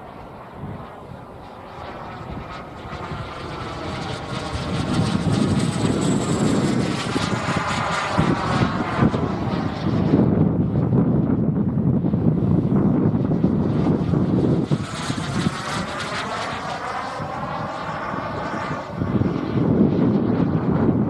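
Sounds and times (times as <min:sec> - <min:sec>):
model jet turbine roar: 0:00.0 - 0:21.0.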